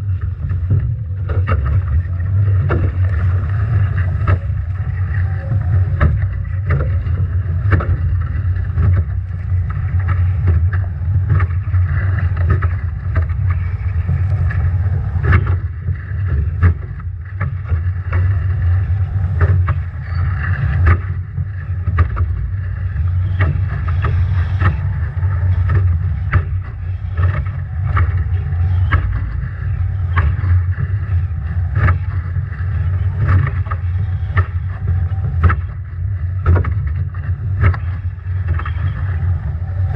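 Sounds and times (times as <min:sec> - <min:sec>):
waves slapping boat: 0:00.0 - 0:39.9
wind buffeting microphone: 0:00.0 - 0:39.9.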